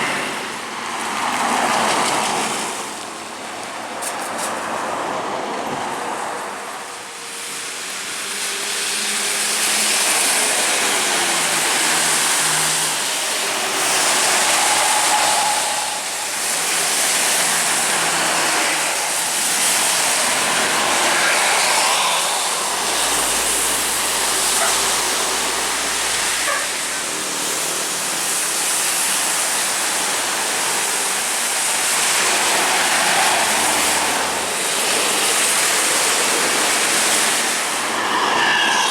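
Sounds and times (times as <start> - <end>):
bus engine: 0.0 - 38.9
tyres hissing on wet road: 0.0 - 38.9.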